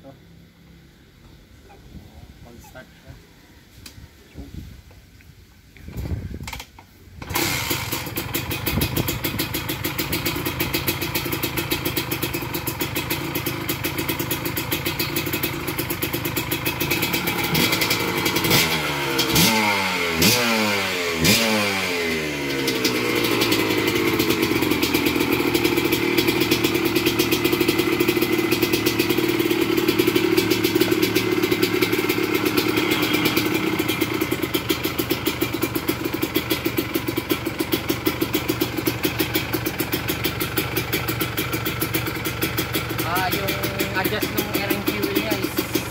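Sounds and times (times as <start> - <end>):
two-stroke motorcycle engine: 6.4 - 45.9.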